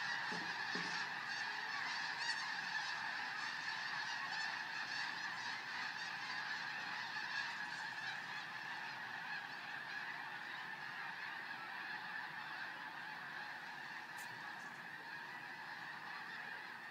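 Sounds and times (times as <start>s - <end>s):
flock of birds honking: 0.0s - 16.9s.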